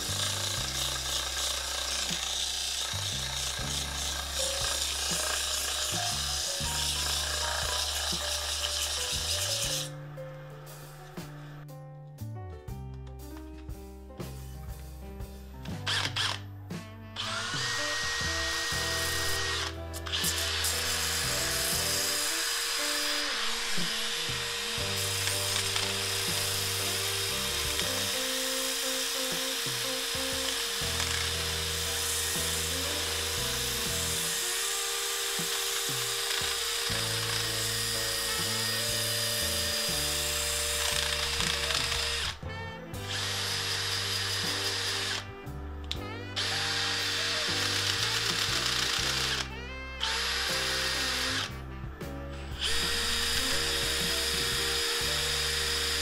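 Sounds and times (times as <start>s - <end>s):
power drill sanding wood: 0.0s - 11.6s, 15.8s - 16.4s, 17.2s - 45.3s, 45.9s - 51.7s, 52.5s - 56.0s
background music: 0.0s - 56.0s.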